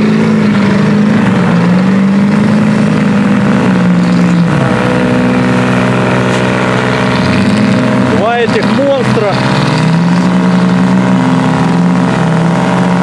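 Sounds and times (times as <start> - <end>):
truck engines under load: 0.0 - 13.0.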